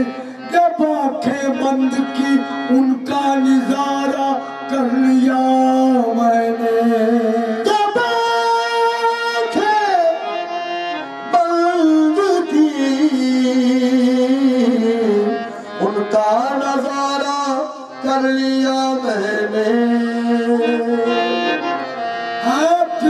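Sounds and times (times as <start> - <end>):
instrumental accompaniment: 0.0 - 23.0.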